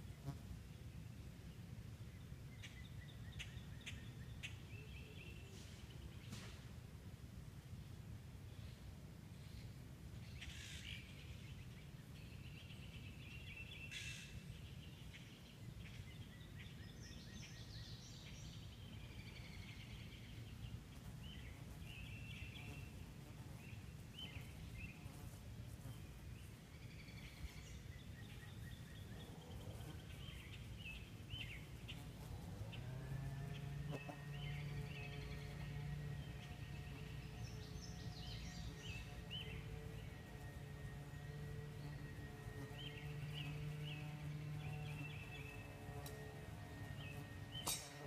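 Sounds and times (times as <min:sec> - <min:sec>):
songbirds chirping and trilling: 0:00.0 - 0:06.8, 0:07.6 - 0:48.0.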